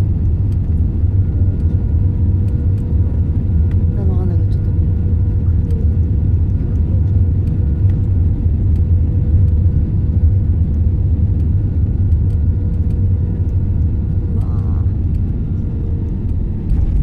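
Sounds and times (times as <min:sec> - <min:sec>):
jet airliner rumble from cabin: 0:00.0 - 0:17.0.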